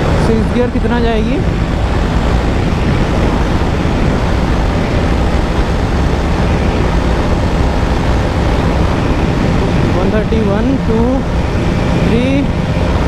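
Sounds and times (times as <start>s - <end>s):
motorcycle engine at high revs: 0.0s - 13.0s
wind rush over microphone: 0.0s - 13.0s.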